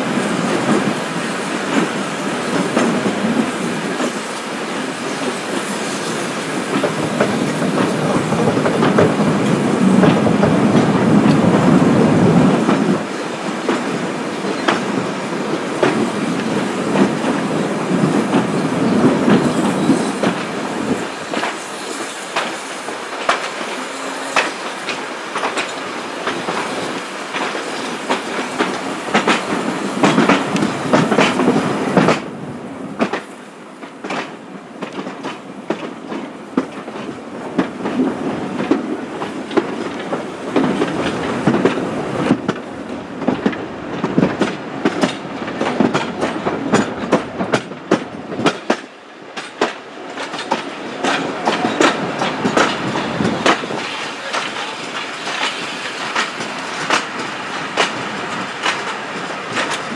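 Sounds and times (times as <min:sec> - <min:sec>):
wheels clicking over rail joints: 0:00.0 - 0:32.3, 0:33.0 - 0:59.9
train coaches rumbling: 0:00.0 - 0:59.9.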